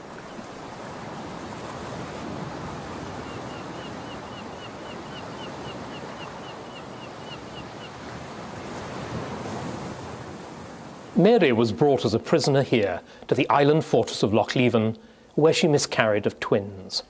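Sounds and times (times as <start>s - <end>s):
waves rushing: 0.0s - 15.2s
wind: 0.0s - 17.0s.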